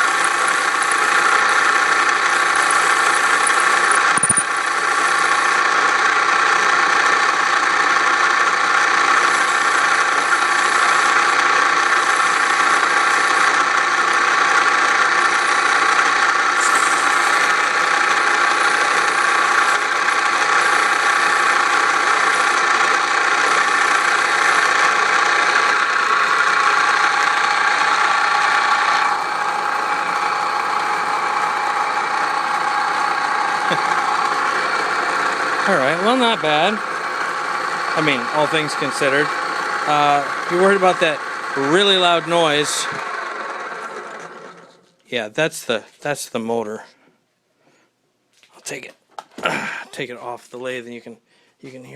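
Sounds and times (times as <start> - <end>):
lathe motor droning with rattle: 0.0 - 45.0.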